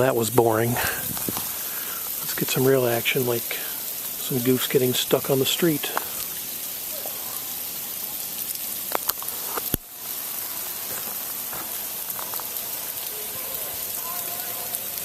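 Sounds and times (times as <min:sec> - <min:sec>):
sleet hissing: 0:00.0 - 0:15.0
light ticks of ice pellets: 0:00.9 - 0:15.0.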